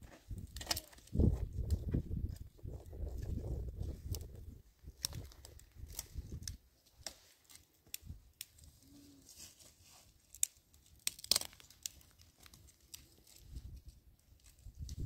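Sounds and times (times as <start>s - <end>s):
dry branches crackling and snapping: 0.0s - 15.0s.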